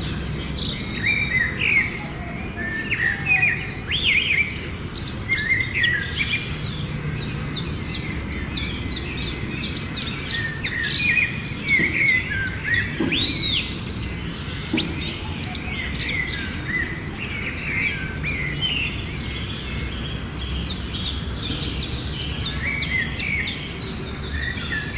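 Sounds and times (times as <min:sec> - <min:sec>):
myna birds chirping and whistling: 0:00.0 - 0:24.9.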